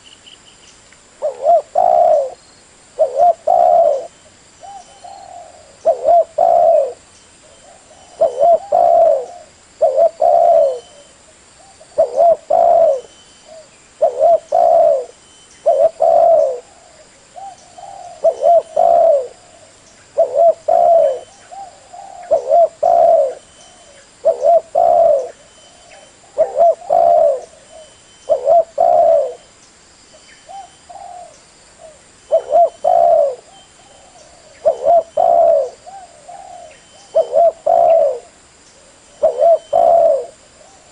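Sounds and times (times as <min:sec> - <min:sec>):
dove cooing: 0:01.2 - 0:02.4, 0:03.0 - 0:29.5, 0:30.5 - 0:40.9.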